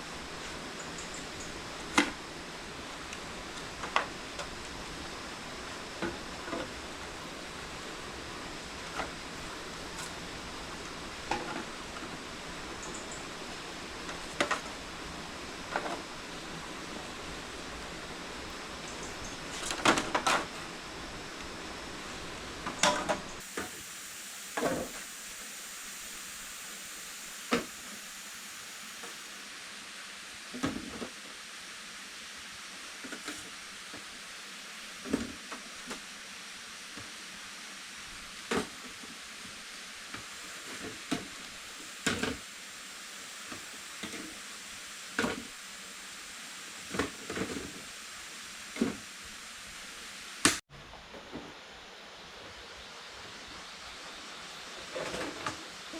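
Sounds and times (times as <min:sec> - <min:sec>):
steady hiss: 0:00.0 - 0:55.9.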